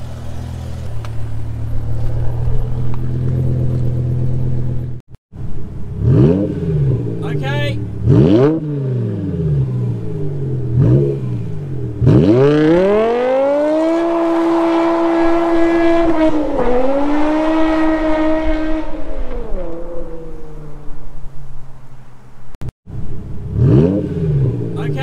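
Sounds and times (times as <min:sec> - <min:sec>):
car engine revving under load: 0:00.0 - 0:05.0, 0:05.6 - 0:24.9.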